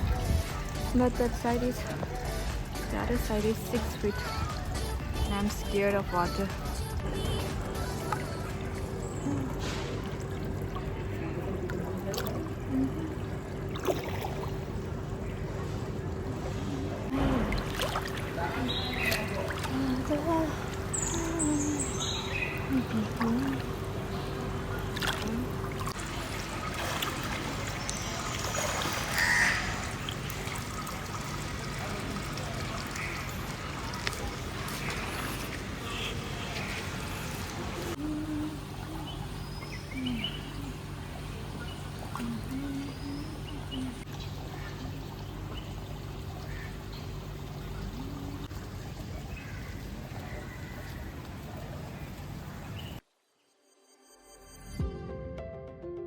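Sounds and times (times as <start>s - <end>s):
steady low hum: 0.0s - 53.0s
water trickling: 0.0s - 53.1s.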